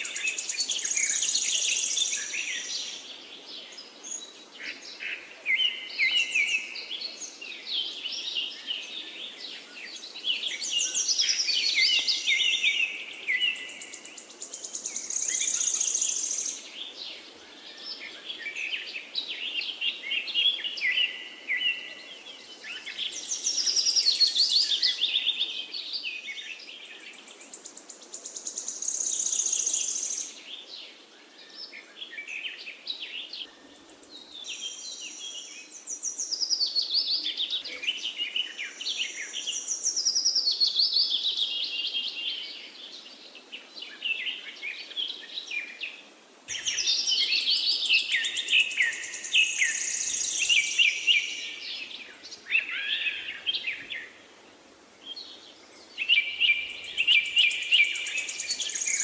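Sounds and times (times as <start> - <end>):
faint background hiss: 0.0 - 59.0
songbirds chirping and singing: 0.0 - 59.0.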